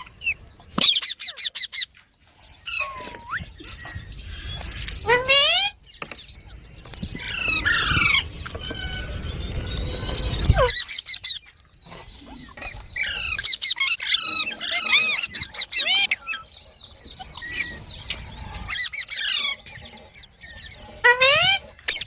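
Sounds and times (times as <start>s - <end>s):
parrot squawking and chattering: 0.0s - 2.0s, 2.6s - 5.8s, 7.2s - 11.5s, 12.2s - 22.0s.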